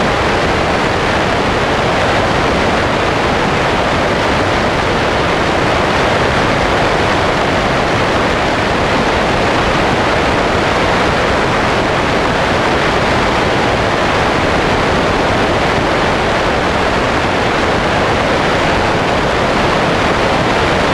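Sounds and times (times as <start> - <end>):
wind rushing over camera: 0.0 - 20.9.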